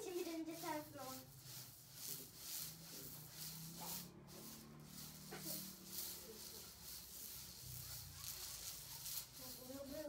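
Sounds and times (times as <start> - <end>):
hula hoops swishing: 0.0 - 10.0.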